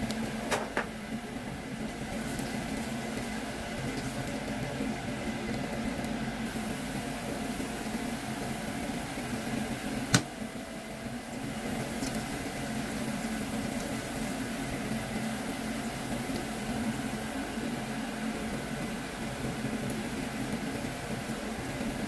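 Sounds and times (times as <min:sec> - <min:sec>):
mechanical hum: 0:00.0 - 0:22.0
onions sizzling in a pan: 0:00.0 - 0:22.0.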